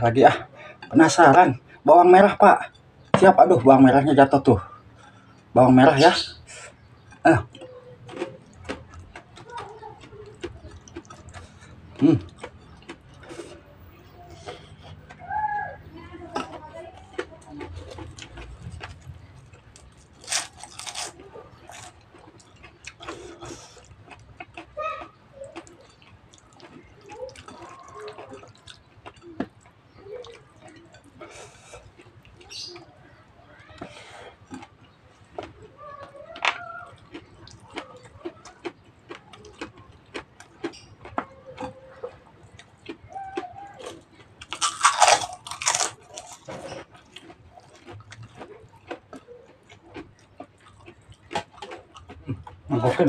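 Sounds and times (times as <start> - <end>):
man chewing wetly: 0.4 - 53.0
fingers squelching food: 6.4 - 52.6.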